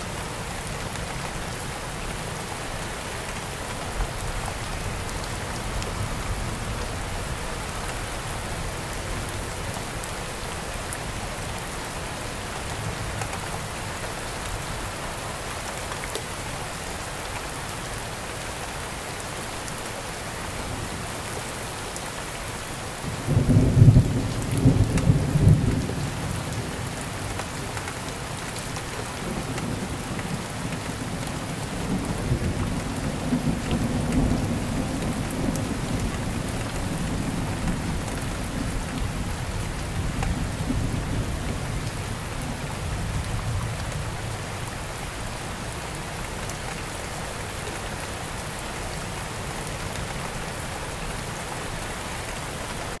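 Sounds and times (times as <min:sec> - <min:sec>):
rain falling on plants: 0:00.0 - 0:53.0.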